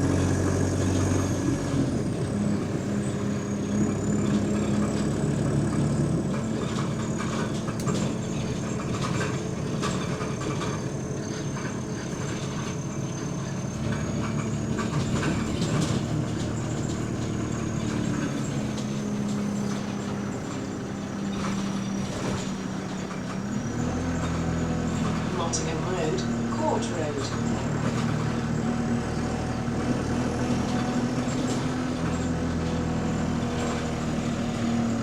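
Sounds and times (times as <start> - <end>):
bus body rattling: 0.0 - 35.0
bus engine running: 0.0 - 35.0.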